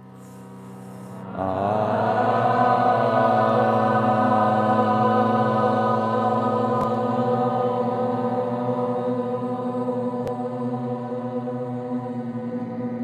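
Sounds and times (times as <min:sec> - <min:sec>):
man chanting om: 0:00.0 - 0:13.0.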